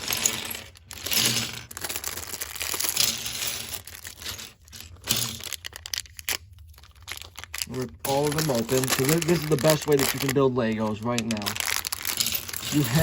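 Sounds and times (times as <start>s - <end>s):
plastic bags tearing and crinkling: 0.0s - 13.0s.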